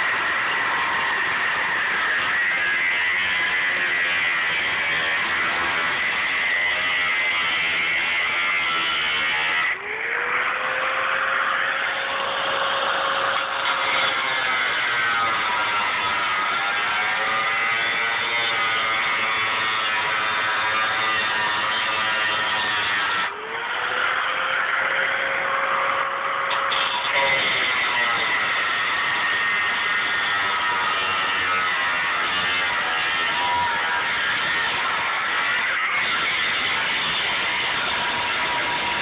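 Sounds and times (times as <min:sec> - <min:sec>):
angle grinder cutting steel: 0:00.0 - 0:39.0.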